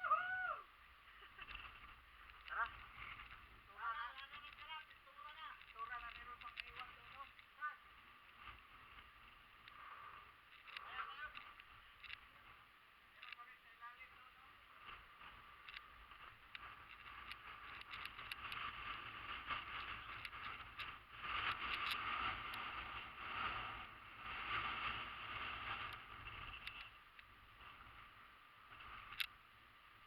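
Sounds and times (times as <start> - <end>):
small ticks: 1.4 - 3.4, 4.1 - 13.5, 14.8 - 28.0, 28.7 - 29.4.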